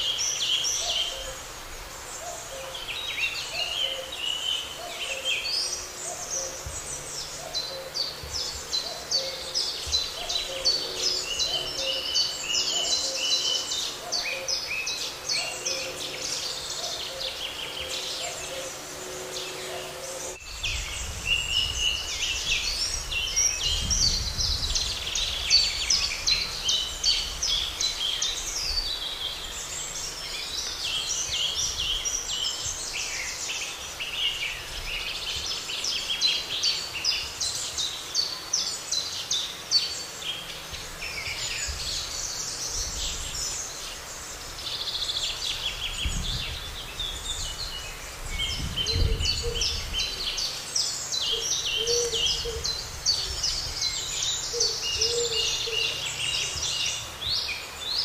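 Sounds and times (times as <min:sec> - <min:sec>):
chorus of songbirds: 0:00.0 - 0:58.0.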